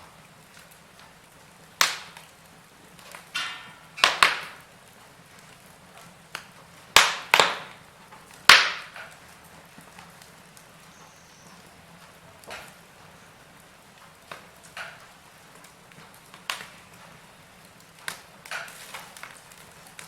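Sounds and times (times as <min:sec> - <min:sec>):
fire pops and snaps: 0:00.0 - 0:20.0
wood fire crackling: 0:00.0 - 0:20.0.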